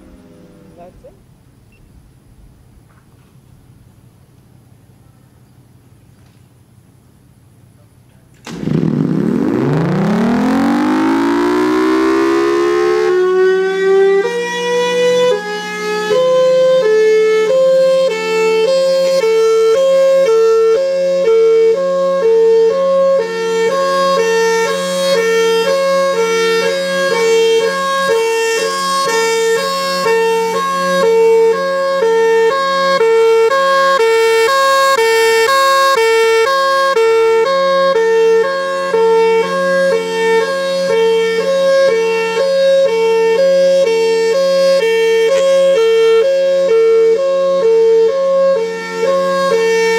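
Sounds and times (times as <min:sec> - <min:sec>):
warning siren two-tone signal: 0:08.5 - 0:49.9.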